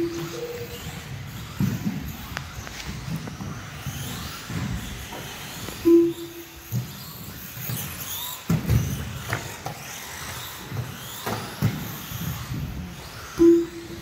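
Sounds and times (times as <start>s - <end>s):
rc car motor whine: 0.0s - 14.0s.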